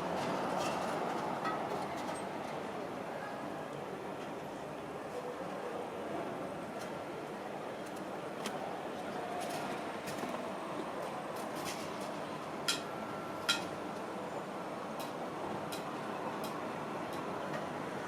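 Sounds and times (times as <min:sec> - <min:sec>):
city background noise: 0:00.0 - 0:18.0.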